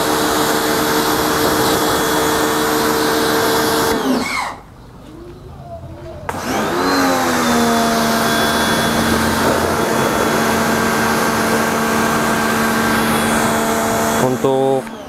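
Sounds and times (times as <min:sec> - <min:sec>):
pressure washer motor whining: 0:00.0 - 0:04.7, 0:06.3 - 0:15.0.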